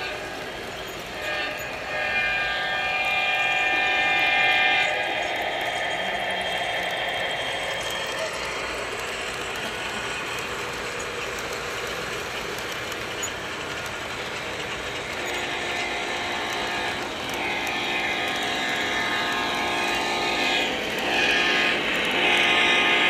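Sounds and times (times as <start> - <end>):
model train wheels clattering: 0.0 - 3.8, 5.1 - 23.0
steady hum: 0.0 - 23.0.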